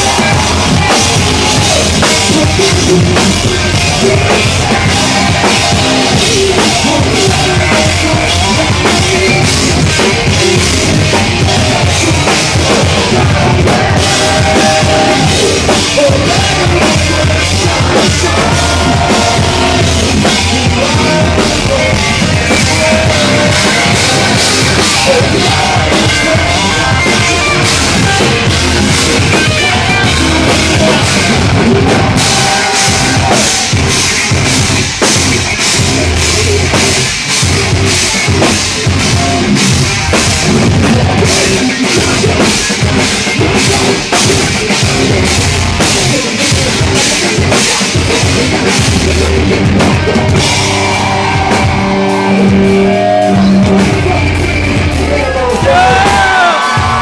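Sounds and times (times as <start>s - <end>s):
person singing into microphone: 0.0s - 34.3s, 38.1s - 57.0s
fast drum hits: 0.0s - 54.4s
heavy electric guitars and bass: 0.0s - 57.0s.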